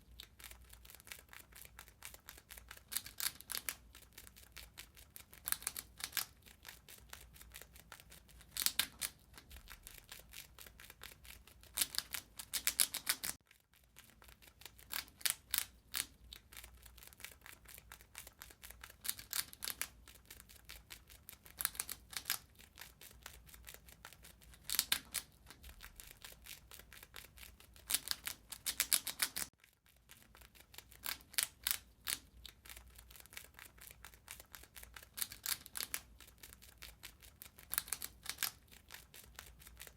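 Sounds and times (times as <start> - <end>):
rat gnawing and chewing: 0.0 - 39.9.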